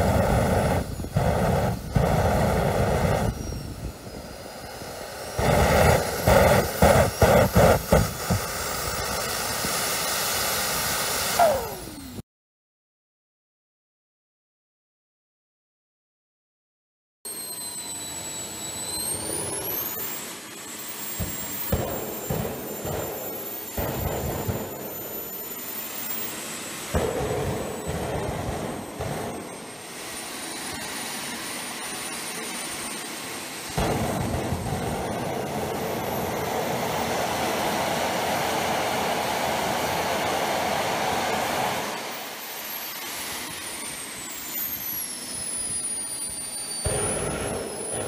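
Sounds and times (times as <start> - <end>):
model jet turbine whining and roaring: 0.0 - 12.2, 17.3 - 48.0.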